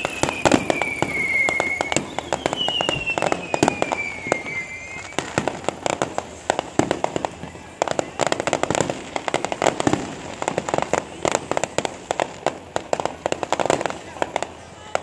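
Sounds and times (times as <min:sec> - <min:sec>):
falling firework whistles: 0:00.0 - 0:15.0
fireworks cracks and bangs: 0:00.0 - 0:15.0.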